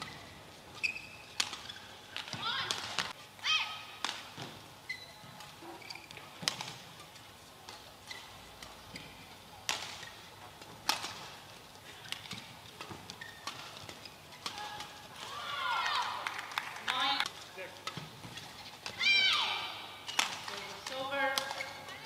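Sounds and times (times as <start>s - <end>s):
court shoes squeaking: 0.0s - 16.0s, 17.0s - 22.0s
rackets hitting shuttlecock: 0.9s - 3.2s, 3.8s - 4.6s, 5.4s - 15.3s, 17.0s - 22.0s.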